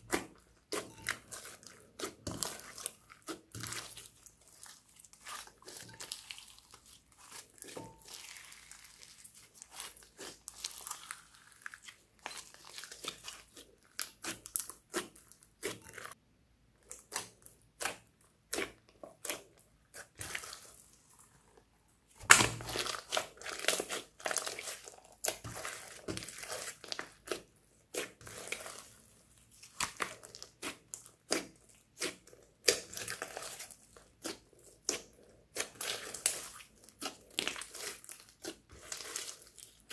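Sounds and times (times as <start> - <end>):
slime squelching: 0.0 - 16.2, 16.8 - 39.9.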